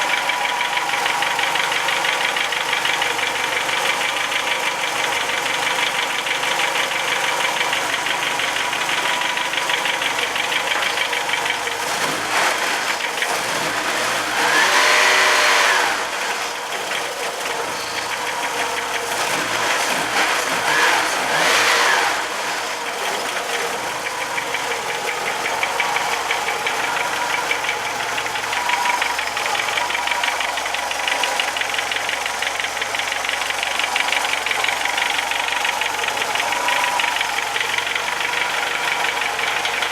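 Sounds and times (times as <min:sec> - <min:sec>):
car engine idling with ticking knock: 0:00.0 - 0:39.9.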